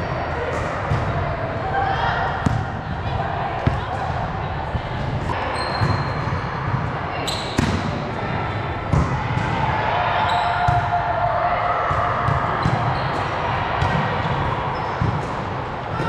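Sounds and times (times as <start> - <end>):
echoing hum of voices: 0.0 - 16.0
volleyballs hit and bouncing: 2.3 - 11.2, 11.8 - 16.0.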